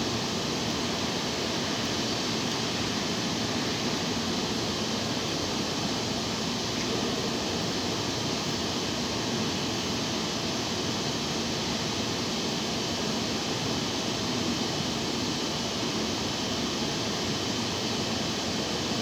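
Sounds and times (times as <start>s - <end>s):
air conditioner unit running: 0.0s - 19.0s.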